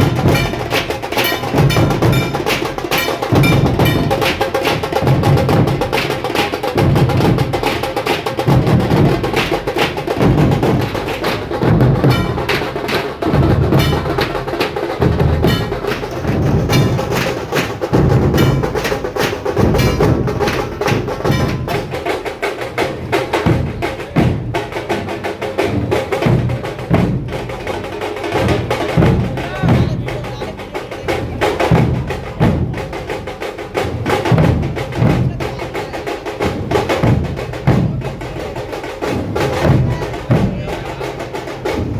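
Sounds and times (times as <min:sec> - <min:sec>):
heavy low barrel drum strokes: 0:00.0 - 0:41.9
rapid sharp drum rattle: 0:00.0 - 0:41.9.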